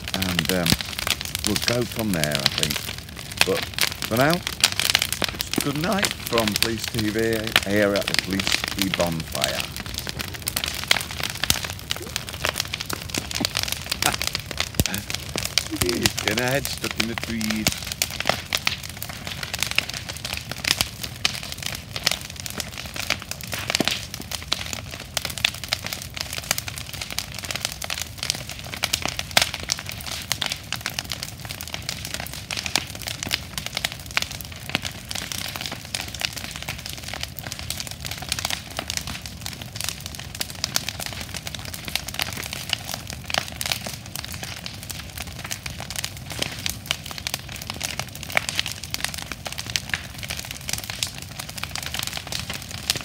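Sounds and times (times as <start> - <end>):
bonfire crackling and popping: 0.0 - 53.0.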